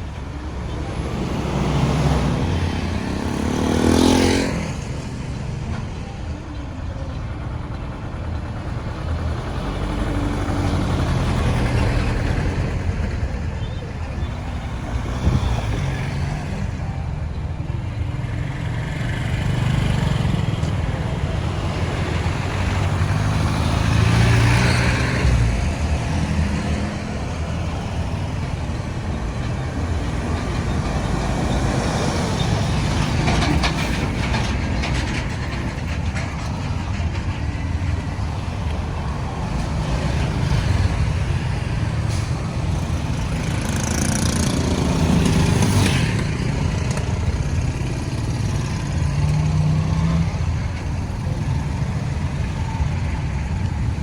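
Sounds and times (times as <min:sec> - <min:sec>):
low traffic rumble: 0:00.0 - 0:54.0
passing vehicles: 0:00.0 - 0:54.0.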